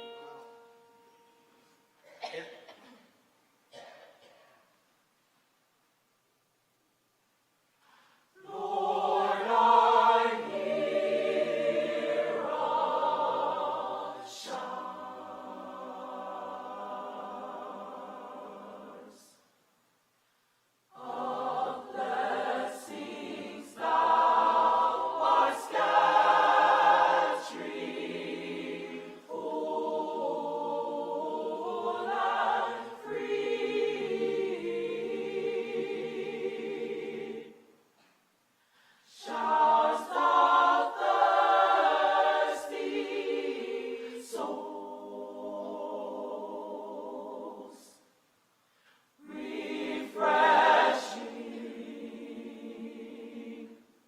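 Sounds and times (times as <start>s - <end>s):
church choir singing: 0.0s - 1.9s, 8.3s - 19.5s, 20.9s - 37.8s, 39.0s - 48.1s, 49.1s - 54.0s.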